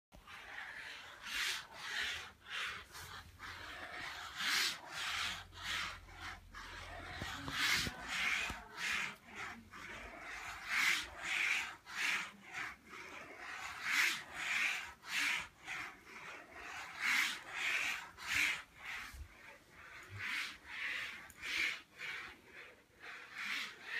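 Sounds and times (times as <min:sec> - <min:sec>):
pen scratching across paper: 0:00.1 - 0:23.9
wooden arms rubbing at joints: 0:00.1 - 0:23.9.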